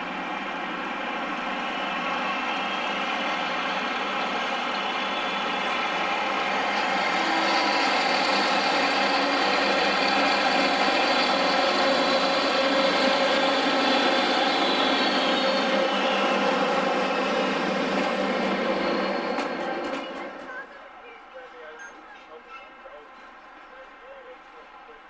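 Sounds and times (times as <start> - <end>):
diesel locomotive engine humming: 0.0 - 25.0.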